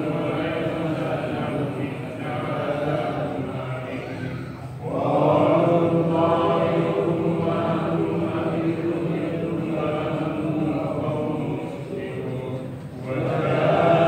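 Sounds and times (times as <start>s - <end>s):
men chanting prayer: 0.0s - 14.0s.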